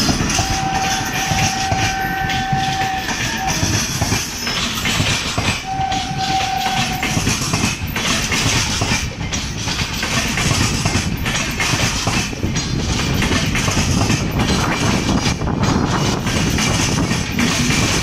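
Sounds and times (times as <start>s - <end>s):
rhythmic clatter over rail joints: 0.0s - 18.0s
train wheels rumbling on rail: 0.0s - 18.0s.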